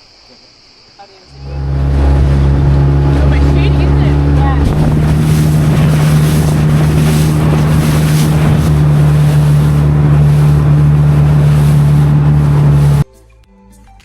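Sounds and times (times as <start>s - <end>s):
boat motor running: 1.3s - 13.0s
water rushing past hull: 1.3s - 13.0s
wind buffeting microphone: 1.4s - 13.0s.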